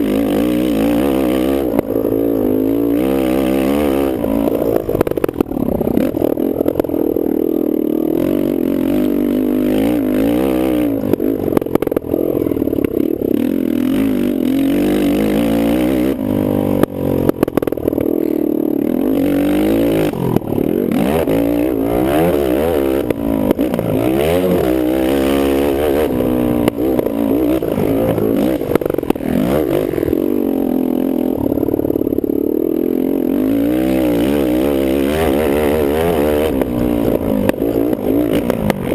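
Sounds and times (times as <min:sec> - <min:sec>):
quad bike engine revving: 0:00.0 - 0:38.9.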